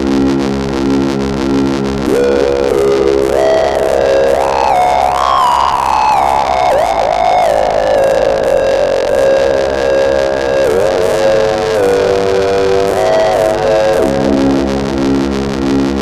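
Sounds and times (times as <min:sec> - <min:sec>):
gliding synthesizer lead line: 0:01.5 - 0:16.0.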